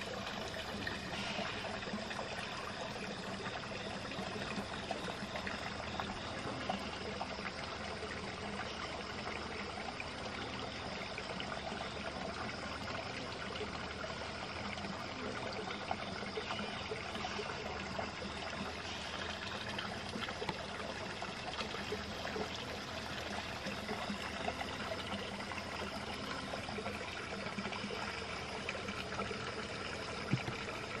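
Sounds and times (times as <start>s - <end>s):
water trickling and babbling: 0.0s - 31.0s.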